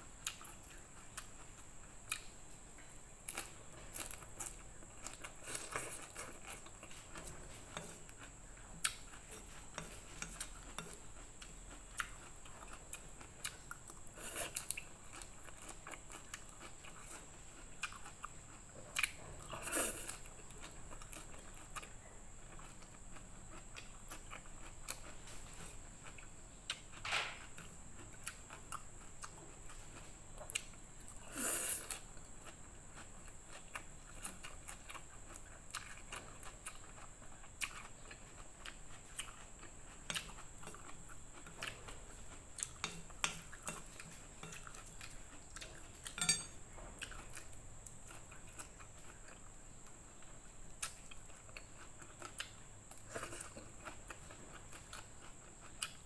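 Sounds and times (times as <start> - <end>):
person chewing and slurping noodles: 3.2 - 56.0.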